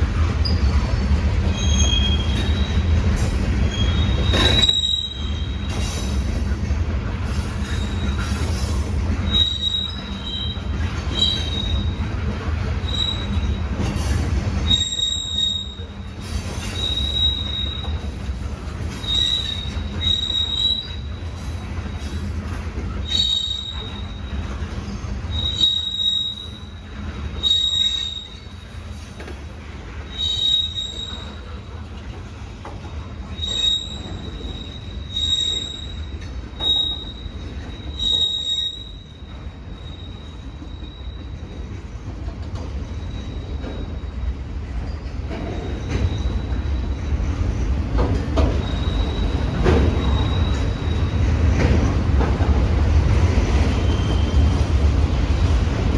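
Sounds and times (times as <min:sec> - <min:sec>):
low rumble of rolling train cars: 0:00.0 - 0:55.9
train wheel flange squeal: 0:00.0 - 0:55.9.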